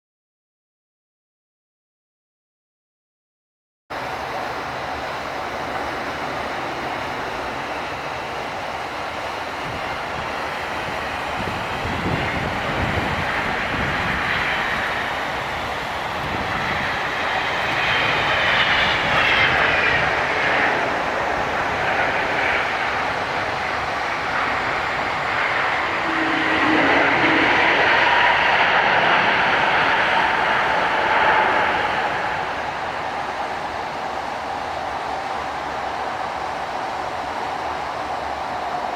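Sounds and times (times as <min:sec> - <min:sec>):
high jet engine whine: 0:03.9 - 0:38.9
jet airliner engines rushing: 0:03.9 - 0:38.9.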